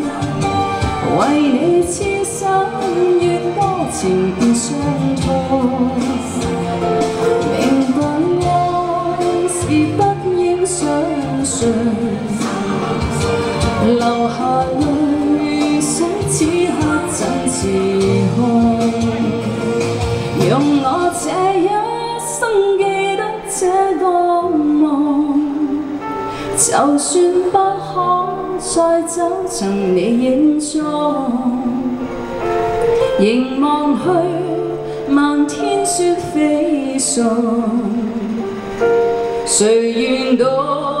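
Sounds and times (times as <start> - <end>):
instrumental accompaniment: 0.0 - 41.0
woman singing into microphone: 0.0 - 41.0.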